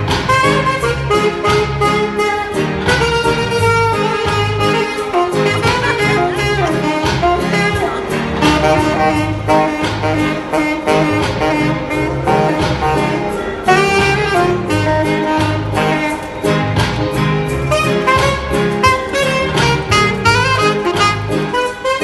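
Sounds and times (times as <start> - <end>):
backing music with bass beat: 0.0 - 22.0
saxophone jazzy melody: 0.0 - 22.0.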